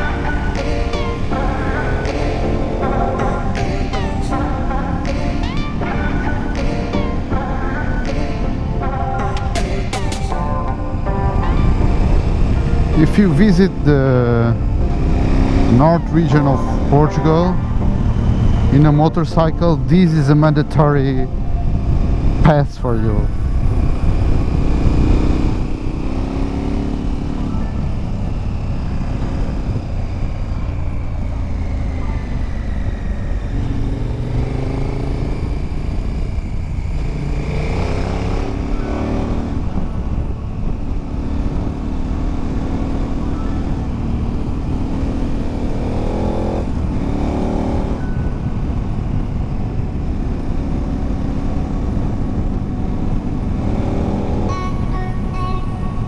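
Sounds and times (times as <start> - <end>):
motorcycle engine accelerating: 0.0 - 54.8.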